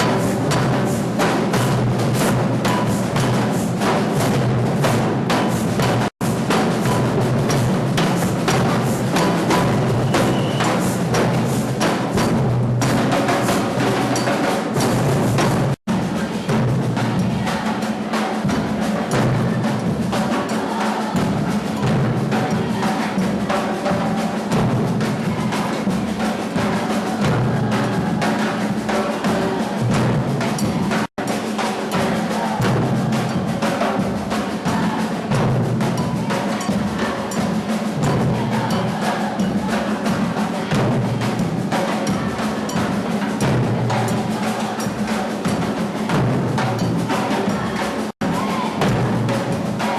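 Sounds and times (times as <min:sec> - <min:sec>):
deep drums: 0:00.0 - 0:49.9.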